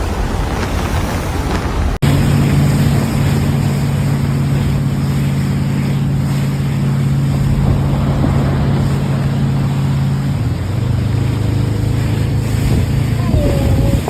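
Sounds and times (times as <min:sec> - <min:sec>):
loud wind-like rushing: 0:00.0 - 0:14.0
low engine-like drone: 0:00.0 - 0:14.0.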